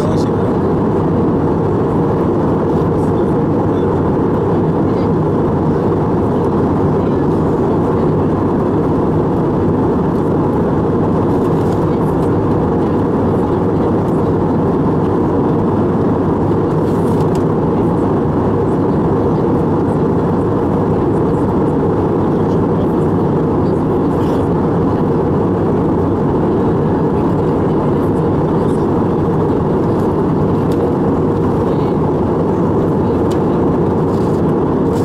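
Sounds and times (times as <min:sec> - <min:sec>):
airliner cabin engine and airflow noise: 0:00.0 - 0:35.0.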